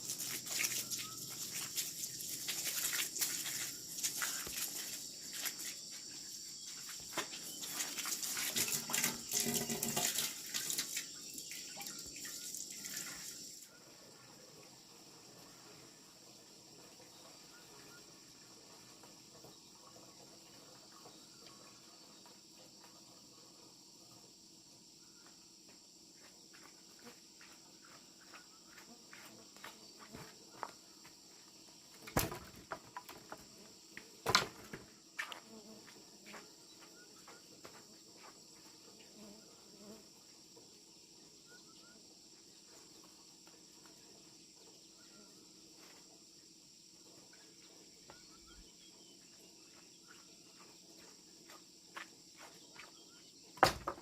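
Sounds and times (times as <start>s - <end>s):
crickets and insects chirring: 0.0s - 54.0s.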